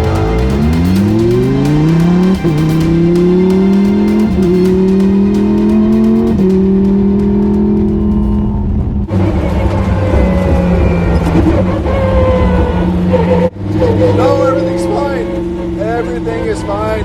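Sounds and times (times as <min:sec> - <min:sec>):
race car engine accelerating: 0:00.0 - 0:16.8
rough noisy car sound: 0:00.0 - 0:17.0.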